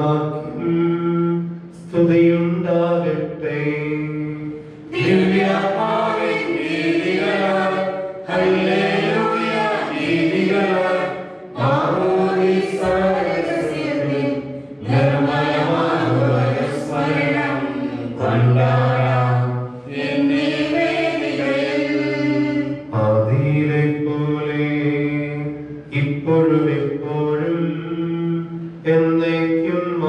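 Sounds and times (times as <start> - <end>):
sung liturgical chant: 0.0 - 30.0.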